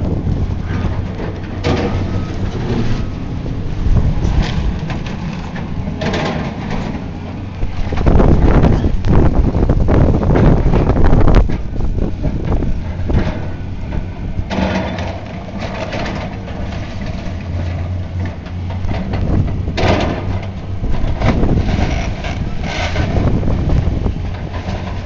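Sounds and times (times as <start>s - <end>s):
debris crunching and clattering: 0.0s - 25.0s
demolition machine engine running: 0.0s - 25.0s.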